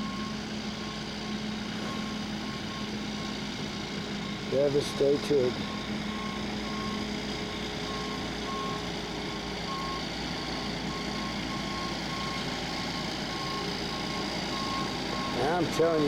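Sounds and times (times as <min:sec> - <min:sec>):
engine and road noise: 0:00.0 - 0:16.0.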